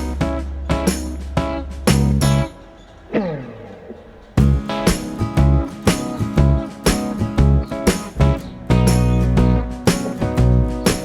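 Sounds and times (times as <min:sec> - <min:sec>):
rhythmic music with heavy bass: 0:00.0 - 0:02.5, 0:04.4 - 0:11.0.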